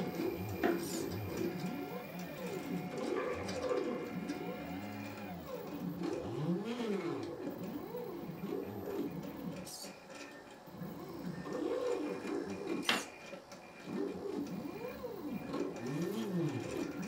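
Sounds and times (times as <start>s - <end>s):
stepper motors whining: 0.0s - 13.2s, 13.8s - 17.0s.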